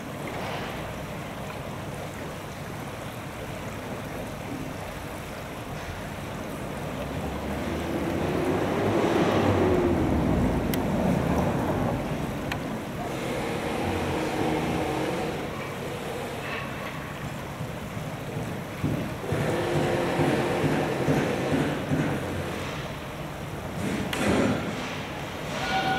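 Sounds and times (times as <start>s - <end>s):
stream water rushing over stone: 0.0s - 25.9s.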